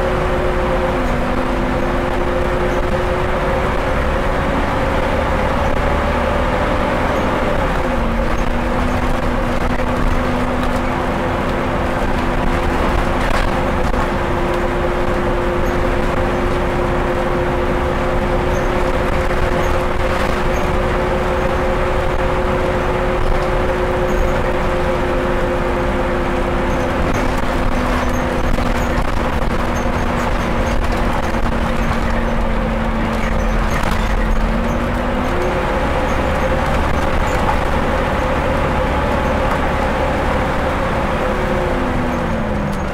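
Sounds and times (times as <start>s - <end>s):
bus engine humming: 0.0s - 42.9s
road and tyre rumble: 0.0s - 42.9s.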